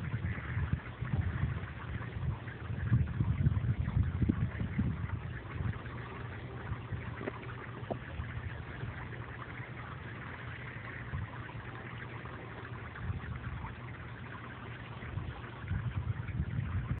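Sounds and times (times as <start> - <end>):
low rumble: 0.0 - 17.0
sprinkler water spraying and splashing: 0.0 - 17.0.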